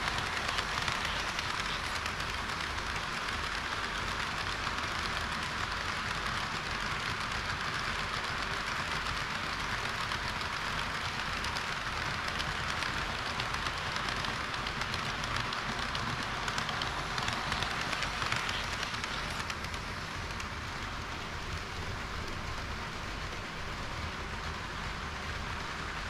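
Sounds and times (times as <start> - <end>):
model trains rolling whir: 0.0 - 26.0
wheels clicking on rail: 0.0 - 26.0.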